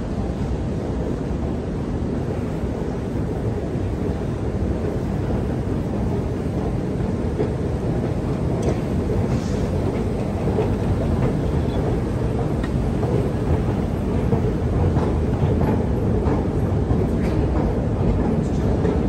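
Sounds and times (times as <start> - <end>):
low rumble of underground station: 0.0 - 19.0.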